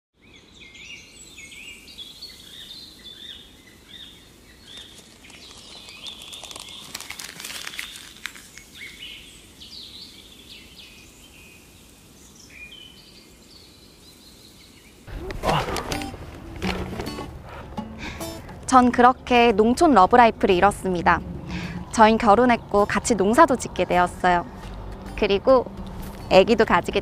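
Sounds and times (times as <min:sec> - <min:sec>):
outdoor background hiss: 0:00.2 - 0:27.0.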